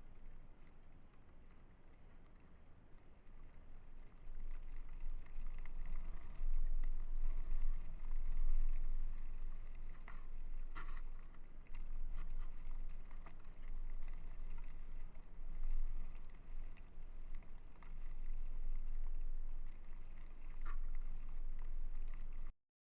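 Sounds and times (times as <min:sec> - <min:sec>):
faint ticks: 0:00.0 - 0:22.5.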